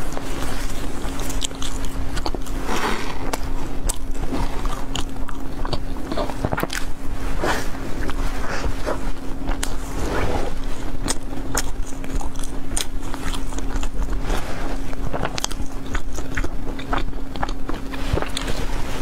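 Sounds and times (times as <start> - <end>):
chewing crusty bread: 0.0 - 19.0
steady low hum: 0.0 - 19.0.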